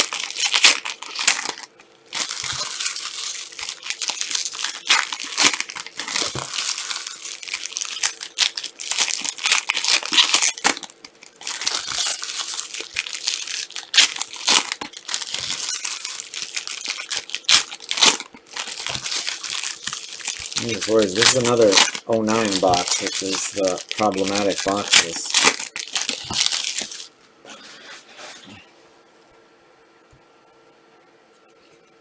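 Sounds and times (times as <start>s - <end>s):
plastic wrappers crinkling and tearing: 0.0s - 27.1s.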